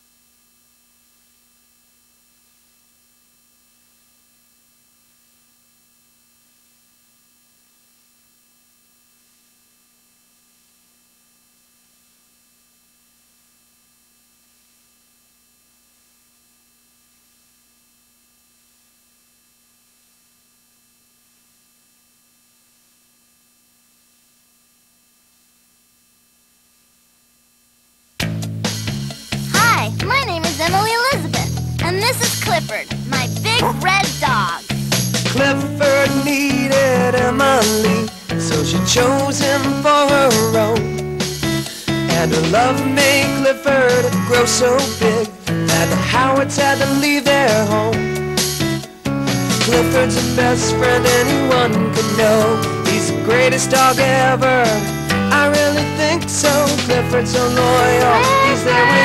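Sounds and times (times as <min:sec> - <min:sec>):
faint tape hum and hiss: 0:00.0 - 0:28.6, 0:29.3 - 0:59.0.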